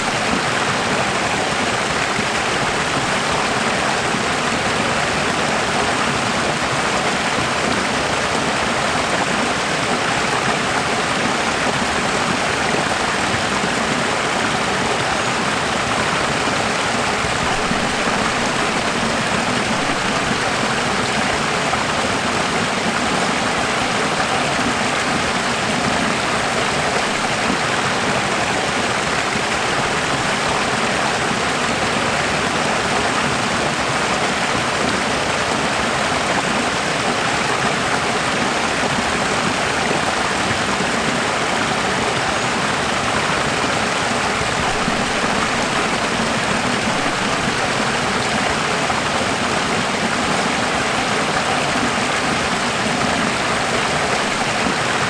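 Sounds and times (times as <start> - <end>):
running water flowing: 0.0 - 55.0.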